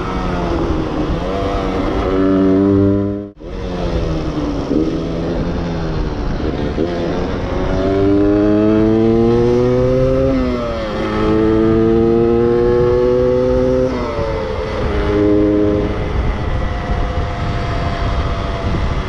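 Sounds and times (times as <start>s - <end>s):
two-stroke motorcycle engine: 0.0s - 19.0s.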